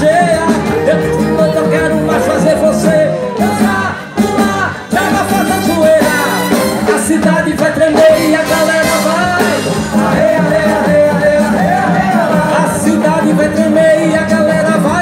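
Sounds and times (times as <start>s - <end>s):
drum kit: 0.0s - 15.0s
electric bass: 0.0s - 15.0s
electric guitars: 0.0s - 15.0s
person singing: 0.0s - 15.0s
horns: 0.2s - 14.0s.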